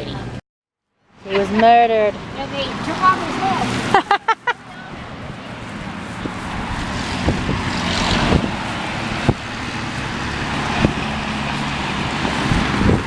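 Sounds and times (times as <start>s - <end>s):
road noise: 0.0s - 13.0s
engine hum: 1.1s - 13.0s.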